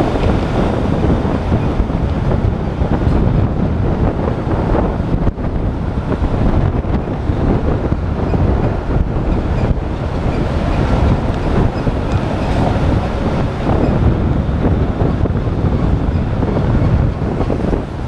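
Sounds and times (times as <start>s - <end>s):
car road noise: 0.0s - 18.0s
wind buffeting microphone: 0.0s - 18.0s.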